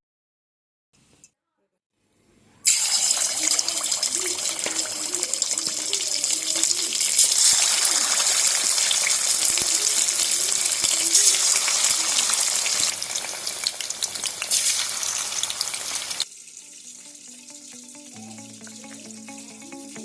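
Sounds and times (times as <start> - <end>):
food sizzling in hot oil: 2.6 - 20.0.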